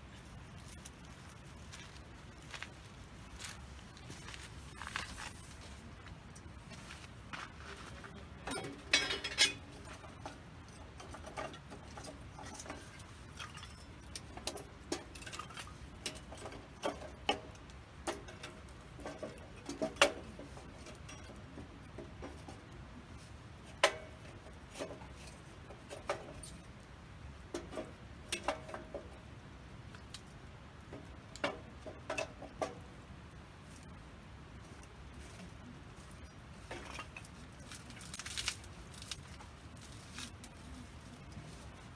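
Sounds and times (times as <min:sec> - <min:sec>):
campfire crackling and popping: 0:00.0 - 0:07.4, 0:09.6 - 0:41.8
faint fire hiss: 0:00.0 - 0:41.9.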